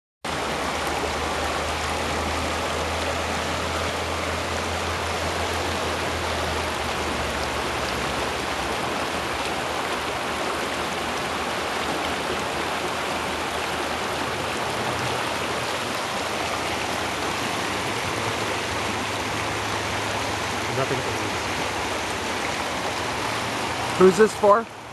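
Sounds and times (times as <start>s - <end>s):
brook babbling over rocks: 0.3s - 24.9s.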